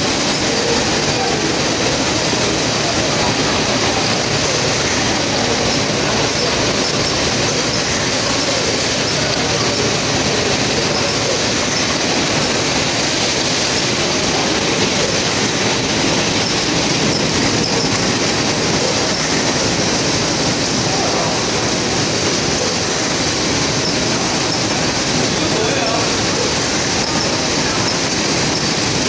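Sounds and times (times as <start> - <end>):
packaging machine clatter: 0.0 - 29.0.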